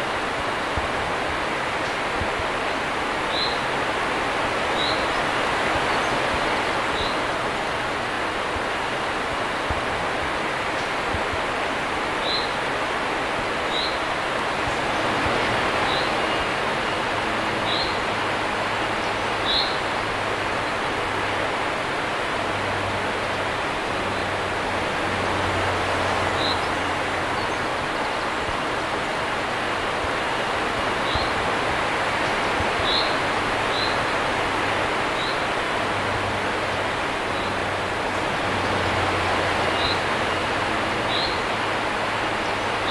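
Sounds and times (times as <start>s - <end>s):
river water rushing over weir: 0.0s - 42.9s.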